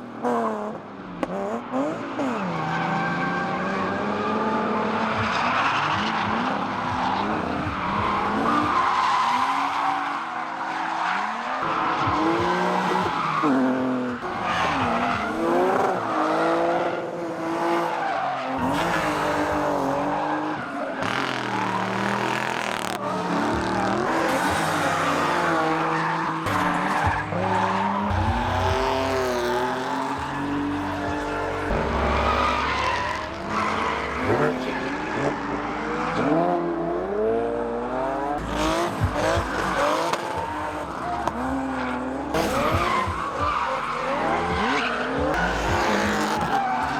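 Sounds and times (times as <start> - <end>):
car engines revving: 0.0 - 46.9
tyres squealing and skidding: 0.0 - 46.9.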